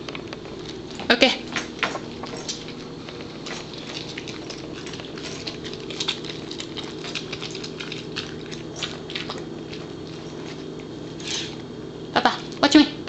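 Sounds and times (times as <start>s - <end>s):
dog chewing and licking: 0.0s - 11.7s
steady low hum: 0.0s - 13.0s.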